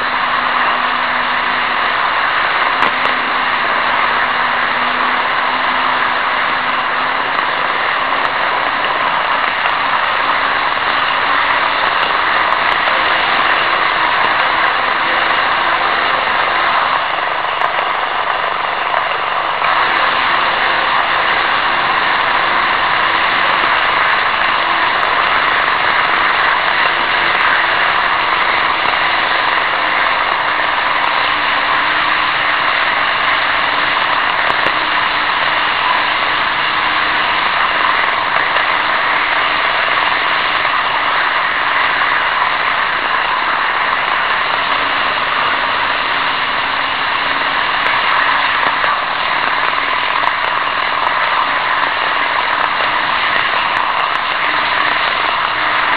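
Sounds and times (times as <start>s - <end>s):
faint wavering motor hum: 0.0s - 55.9s.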